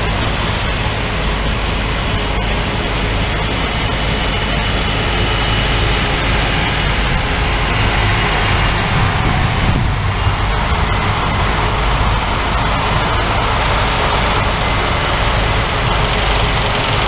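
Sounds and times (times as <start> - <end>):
combine engine drone: 0.0 - 17.0.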